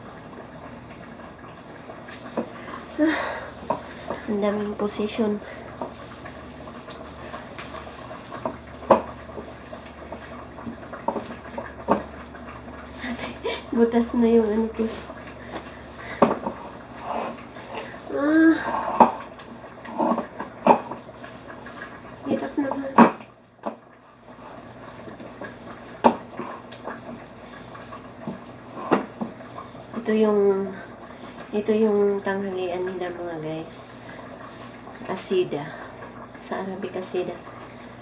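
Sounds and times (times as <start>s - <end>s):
wet stirring of thick dough: 0.0s - 38.0s.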